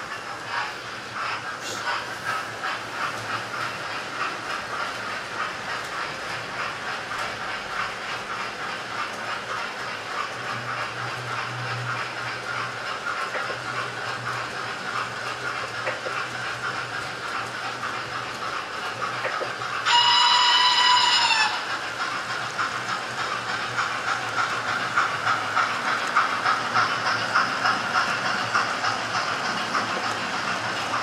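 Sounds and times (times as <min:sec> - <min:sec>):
model train wheels clicking: 0:00.0 - 0:31.0.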